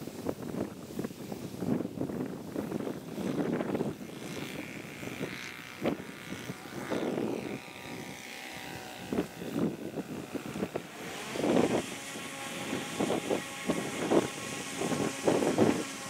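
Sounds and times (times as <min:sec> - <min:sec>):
model plane engine and propeller: 0:00.0 - 0:16.0
wind gusts on microphone: 0:00.0 - 0:16.0.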